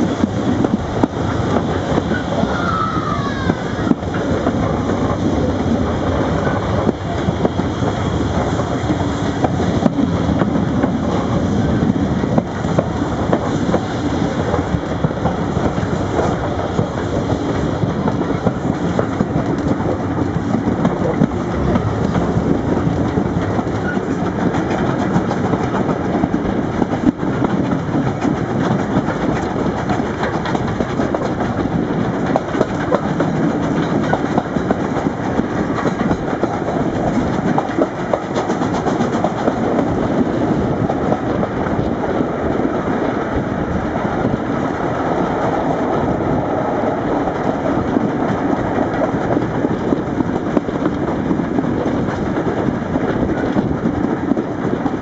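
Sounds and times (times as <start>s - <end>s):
train wheels clattering: 0.0s - 55.0s
wind rushing: 0.0s - 55.0s.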